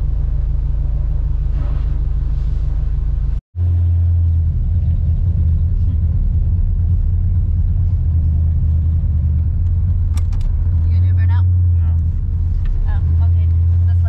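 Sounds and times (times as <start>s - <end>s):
engine drone from inside cab: 0.0s - 14.0s.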